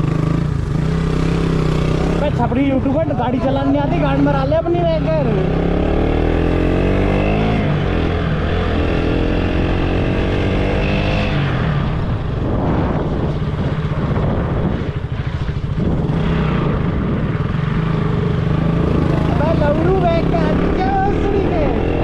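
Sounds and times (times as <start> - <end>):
motorcycle engine accelerating: 0.0 - 22.0
road and wind noise: 0.0 - 22.0.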